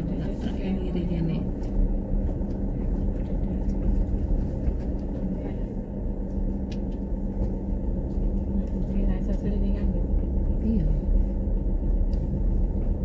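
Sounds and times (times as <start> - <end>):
road rumble: 0.0 - 13.0
vehicle engine hum: 0.0 - 13.0.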